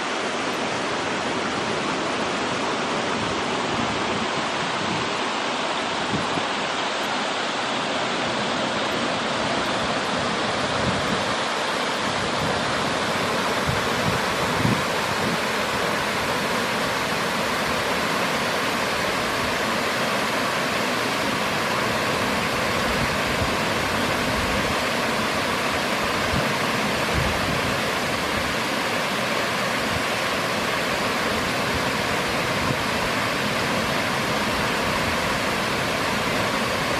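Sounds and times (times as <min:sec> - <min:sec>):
water rushing over a weir: 0:00.0 - 0:36.9.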